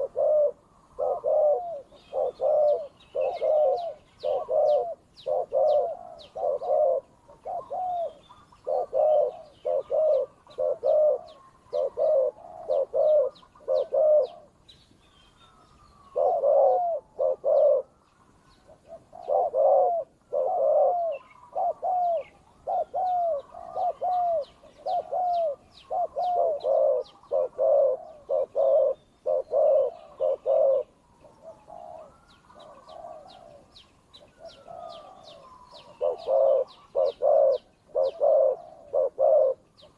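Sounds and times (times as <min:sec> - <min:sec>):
doves cooing: 0:00.0 - 0:14.6, 0:15.5 - 0:39.9
small birds chirping: 0:00.0 - 0:39.9.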